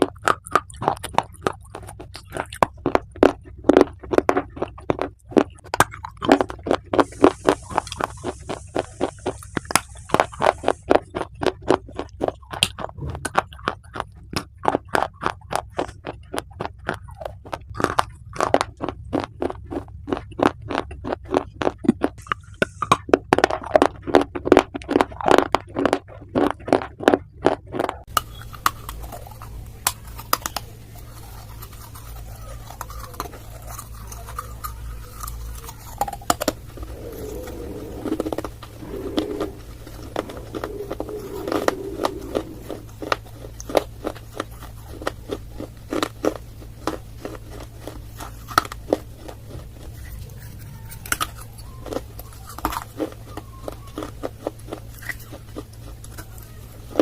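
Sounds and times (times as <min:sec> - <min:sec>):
dry clay crunching when chewed: 0:00.0 - 0:57.0.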